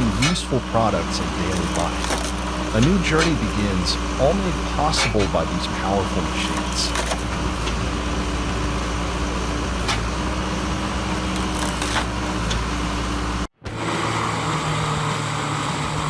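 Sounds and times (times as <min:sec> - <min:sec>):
machine humming: 0:00.0 - 0:16.0
wood-processing machinery running: 0:00.0 - 0:16.0.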